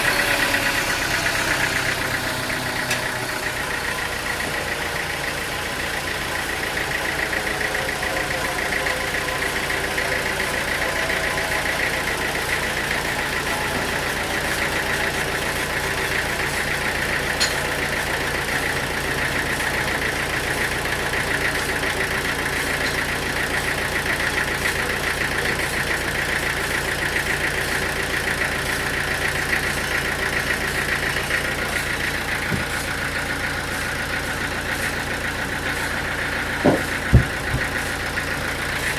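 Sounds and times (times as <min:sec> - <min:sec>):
sawmill machinery drone and whine: 0:00.0 - 0:38.9.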